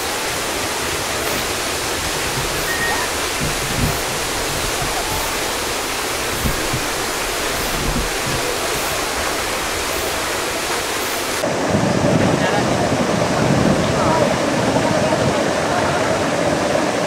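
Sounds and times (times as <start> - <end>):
water gushing and crashing: 0.0 - 17.0.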